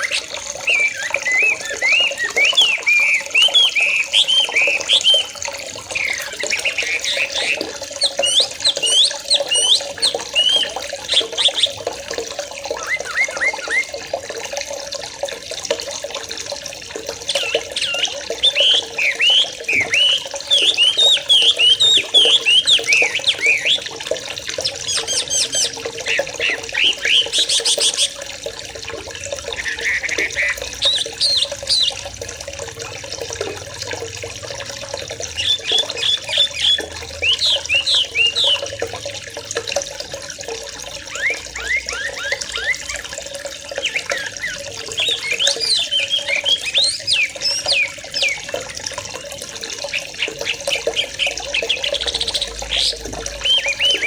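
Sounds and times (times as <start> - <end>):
flock of birds chirping: 0.0 - 14.1, 17.1 - 28.3, 29.2 - 32.1, 35.2 - 38.8, 40.9 - 54.0
running water: 0.0 - 54.0.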